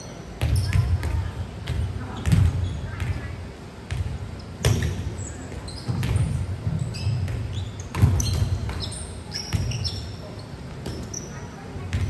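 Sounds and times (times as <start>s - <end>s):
sneakers squeaking on court: 0.0s - 12.0s
volleyballs hit and bouncing: 0.3s - 11.2s, 11.8s - 12.0s.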